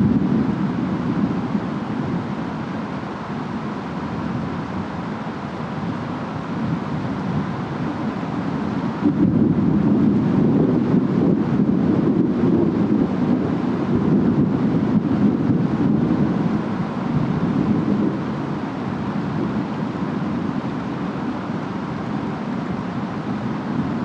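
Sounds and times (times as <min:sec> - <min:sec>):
distant wind: 0:00.0 - 0:24.0.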